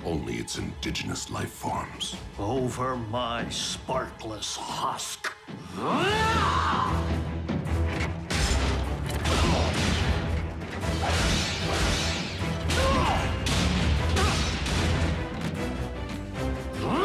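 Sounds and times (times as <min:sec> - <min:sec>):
dramatic background score: 0:00.0 - 0:17.0.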